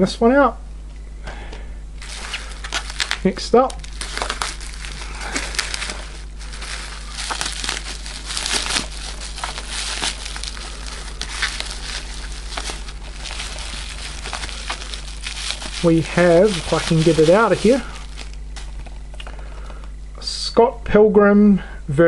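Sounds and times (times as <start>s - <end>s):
bubble wrap crackling: 2.0s - 19.9s.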